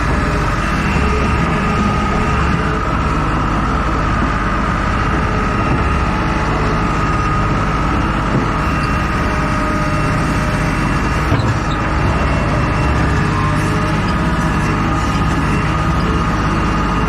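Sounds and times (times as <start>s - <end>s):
faint whine: 0.0s - 17.0s
heavy vehicle engine running: 0.0s - 17.0s.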